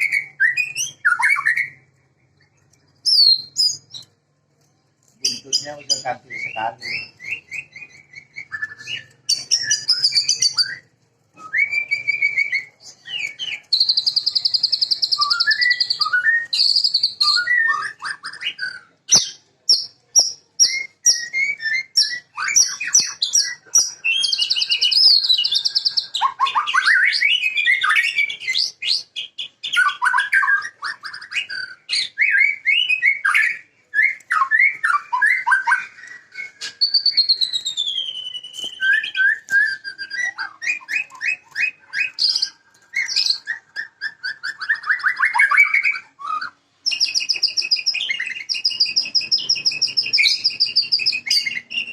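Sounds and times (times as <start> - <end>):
bird singing whistles and trills: 0.0 - 4.1, 5.2 - 51.9.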